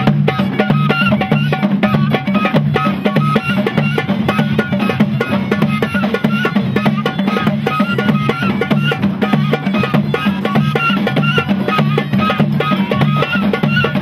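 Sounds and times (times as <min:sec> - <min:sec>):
flute melody: 0:00.0 - 0:14.0
frame drum: 0:00.0 - 0:14.0
goblet drums beating fast: 0:00.0 - 0:14.0.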